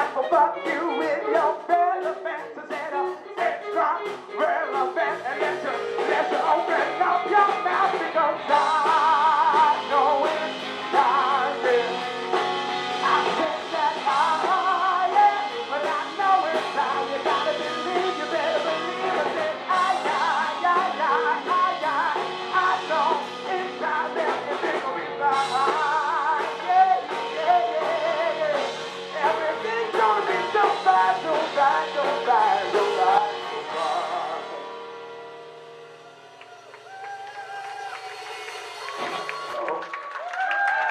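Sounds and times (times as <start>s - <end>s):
live soul band playing: 0.0s - 39.8s.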